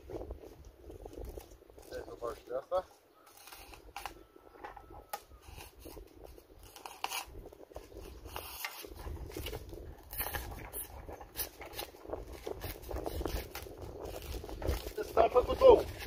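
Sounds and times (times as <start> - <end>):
building materials scraping and crackling: 0.5 - 16.0.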